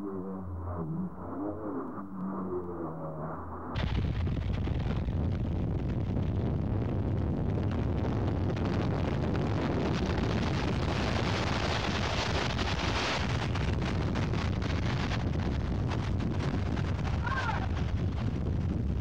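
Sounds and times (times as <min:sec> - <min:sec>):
strong wind buffeting microphone: 0:03.8 - 0:19.0.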